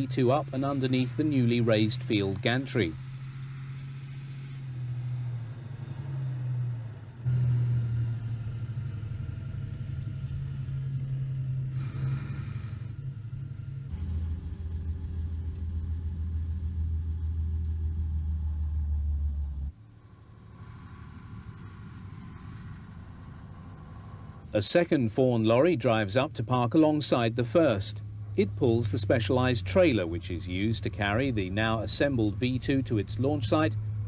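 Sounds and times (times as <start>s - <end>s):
lorry engine running: 0.0s - 34.0s.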